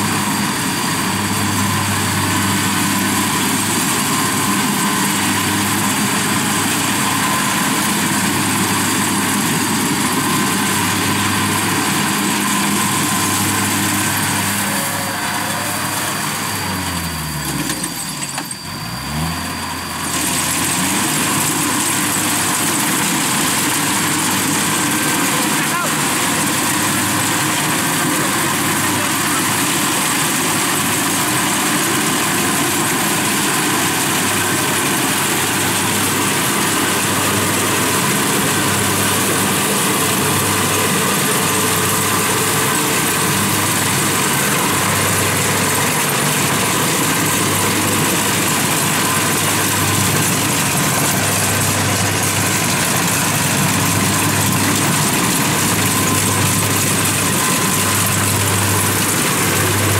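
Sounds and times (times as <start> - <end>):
diesel engine drone: 0.0 - 59.9
harvester machinery whirring: 0.0 - 59.9.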